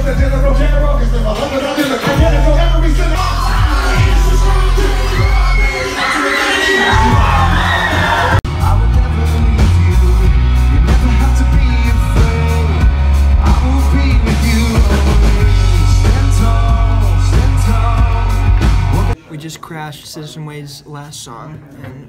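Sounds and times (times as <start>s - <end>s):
concert crowd: 0.0s - 19.2s
drum kit with heavy bass: 0.0s - 19.2s
lead singer: 0.0s - 19.2s.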